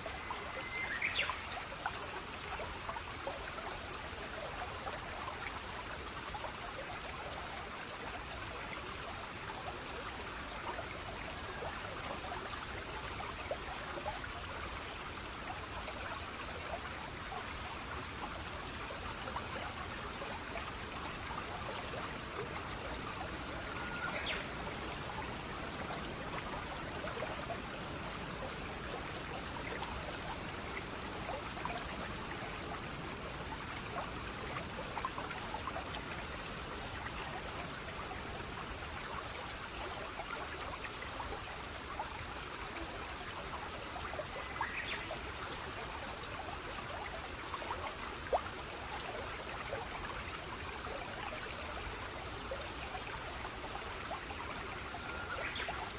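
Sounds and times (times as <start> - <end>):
stream trickling and splashing: 0.0 - 55.9.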